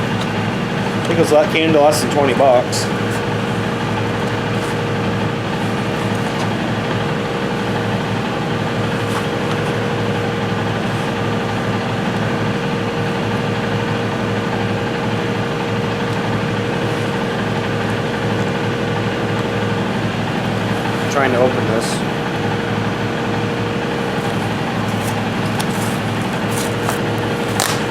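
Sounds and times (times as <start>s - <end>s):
steady machine hum: 0.0s - 27.9s.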